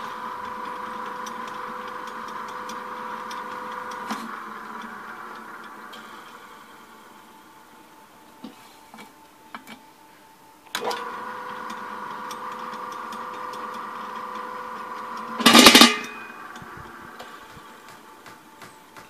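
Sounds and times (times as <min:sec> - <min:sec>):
mixer motor whining: 0:00.0 - 0:09.4, 0:10.6 - 0:19.0.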